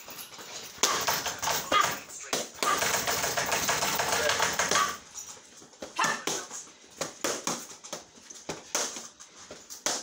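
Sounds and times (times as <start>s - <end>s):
boxing gloves punching mitts: 0.0s - 10.0s.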